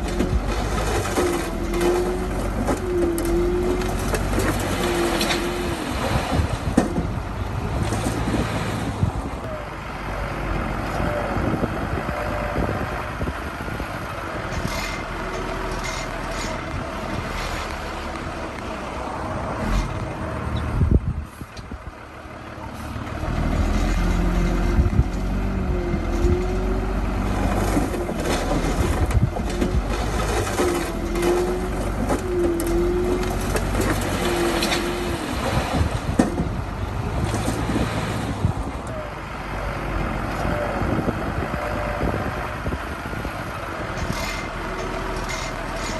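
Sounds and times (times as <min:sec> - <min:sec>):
diesel engine of construction machinery: 0:00.0 - 0:45.9.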